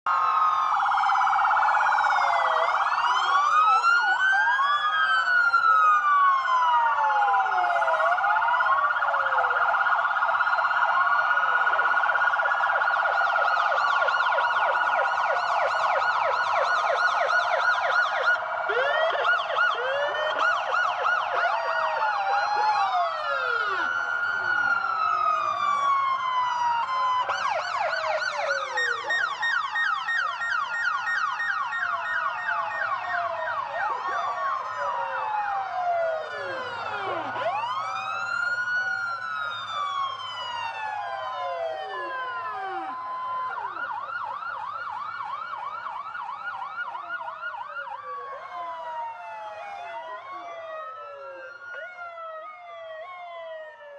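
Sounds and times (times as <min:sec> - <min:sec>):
police and ambulance sirens: 0:00.0 - 0:53.9.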